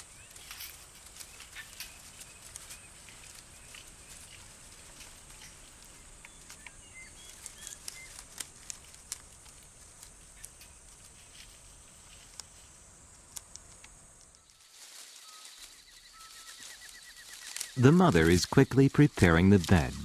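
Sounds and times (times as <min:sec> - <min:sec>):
twigs crackling and snapping: 0:00.1 - 0:20.0.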